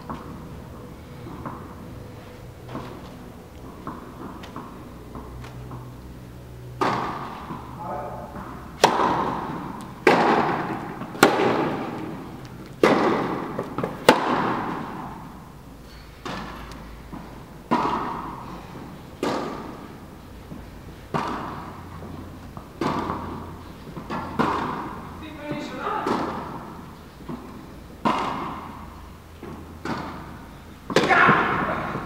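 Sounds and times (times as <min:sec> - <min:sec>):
tennis balls struck and bouncing: 0:00.0 - 0:32.0.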